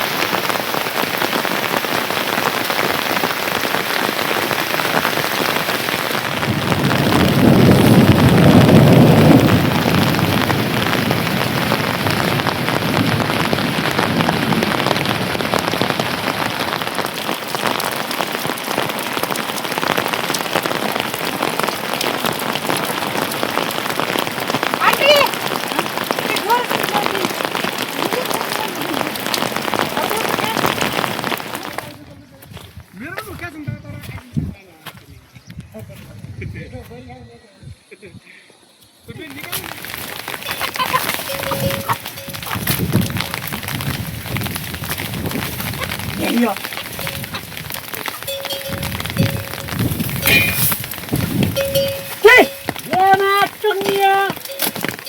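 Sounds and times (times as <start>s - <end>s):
heavy rain falling: 0.0s - 34.6s, 39.0s - 55.0s.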